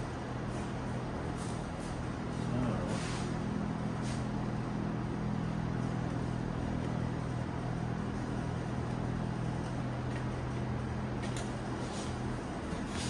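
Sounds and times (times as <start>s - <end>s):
machine hum with low drone: 0.0s - 13.0s.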